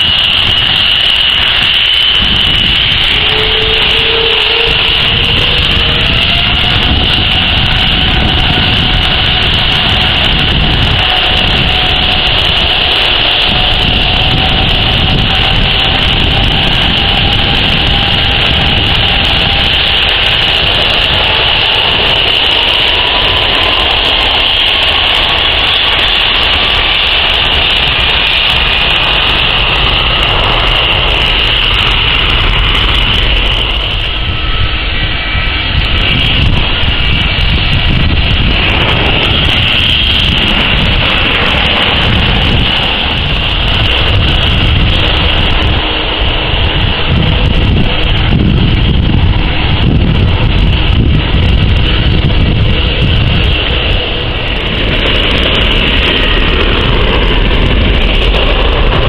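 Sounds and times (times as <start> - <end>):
jet engines whining: 0.0 - 59.0
rising engine tone: 0.3 - 48.4.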